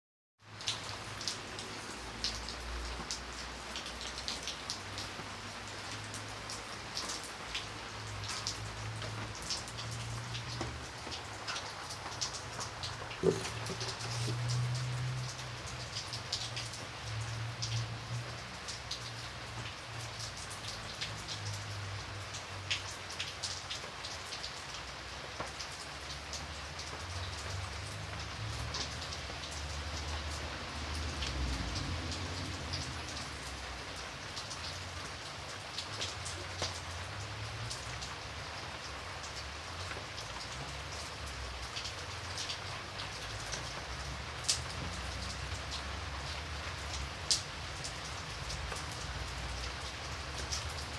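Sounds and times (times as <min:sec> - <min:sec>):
rain pattering on a window: 0:00.4 - 0:50.9.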